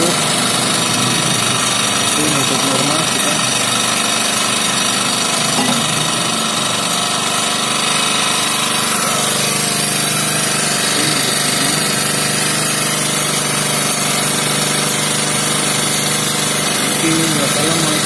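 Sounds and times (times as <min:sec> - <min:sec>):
petrol generator running: 0:00.0 - 0:18.0.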